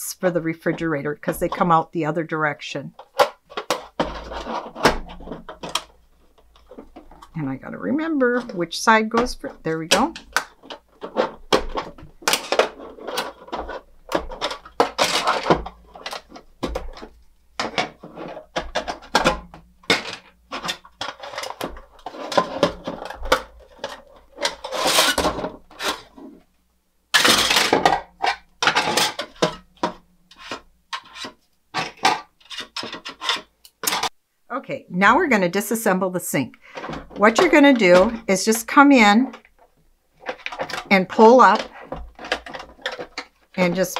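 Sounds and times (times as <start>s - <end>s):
plastic toy parts clattering: 3.0s - 7.4s, 8.0s - 26.5s, 27.1s - 34.2s, 36.7s - 43.9s.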